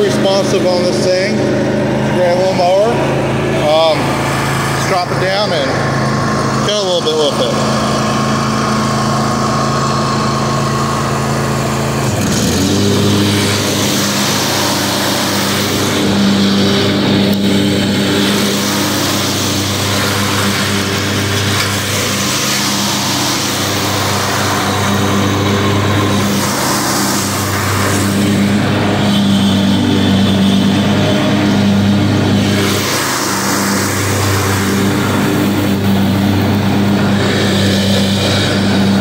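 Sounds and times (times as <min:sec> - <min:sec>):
lawn mower engine running: 0:00.0 - 0:39.0
mower deck cutting grass hiss: 0:00.0 - 0:39.0.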